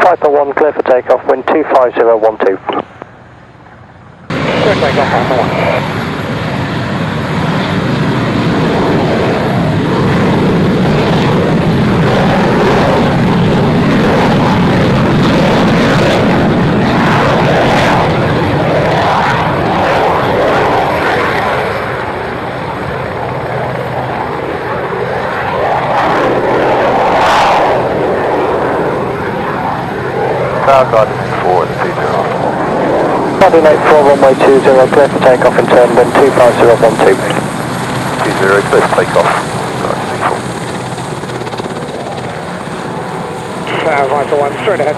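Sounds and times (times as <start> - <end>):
airplane engine at takeoff: 0.0 - 44.9.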